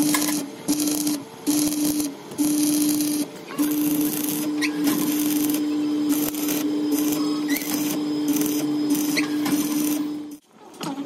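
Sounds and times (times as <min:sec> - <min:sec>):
steady hum: 0:00.0 - 0:10.4
welding arc crackling: 0:00.0 - 0:10.4.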